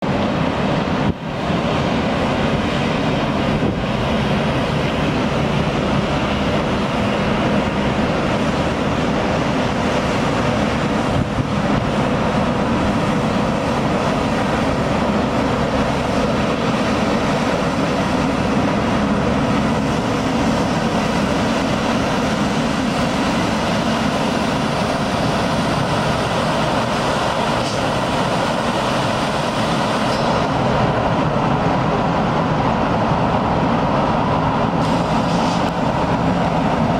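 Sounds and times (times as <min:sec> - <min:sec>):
street sweeper engine and suction: 0:00.0 - 0:36.9.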